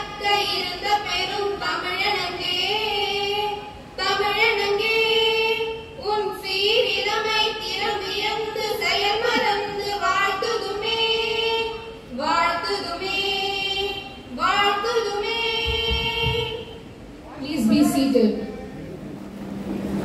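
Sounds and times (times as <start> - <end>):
women singing together: 0.0 - 16.9.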